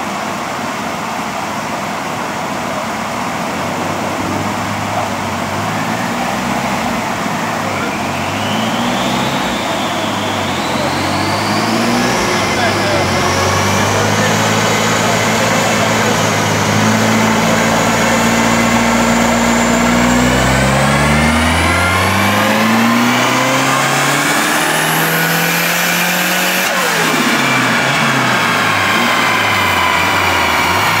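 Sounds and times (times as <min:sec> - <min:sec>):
car engine revving with rising whine: 0:00.0 - 0:31.0.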